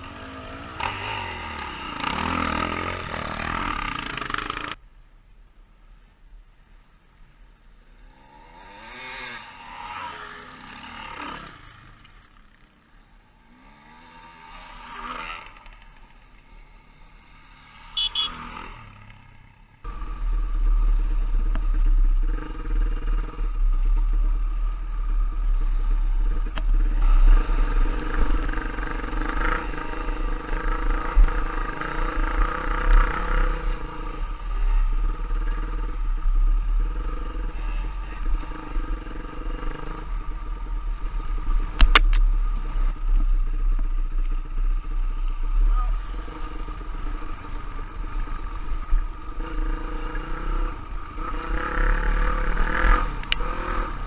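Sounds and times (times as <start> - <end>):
dirt bike engines passing: 0.0 - 4.8, 7.8 - 54.0
loud motorcycle engine rumbling: 0.0 - 4.8, 8.1 - 54.0.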